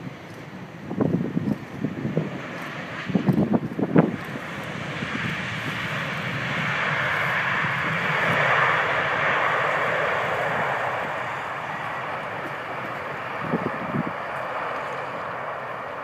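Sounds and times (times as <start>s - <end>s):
jet engines in reverse thrust: 0.0s - 16.0s.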